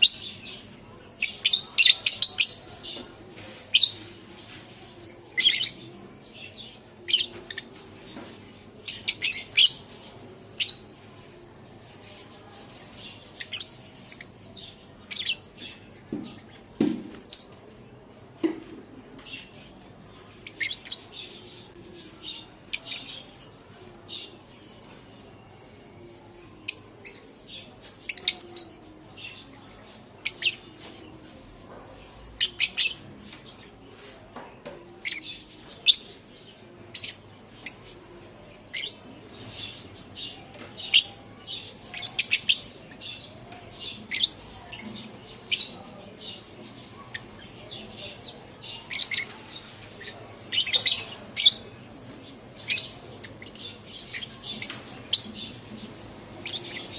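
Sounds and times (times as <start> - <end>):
lovebirds chirping: 0.0 - 17.8, 18.7 - 56.9.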